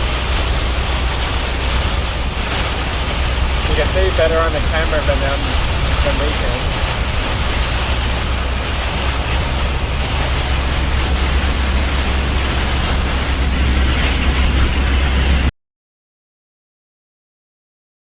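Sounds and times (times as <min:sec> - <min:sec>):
deep vehicle rumble: 0:00.0 - 0:15.5
storm wind and rain on car: 0:00.0 - 0:15.5.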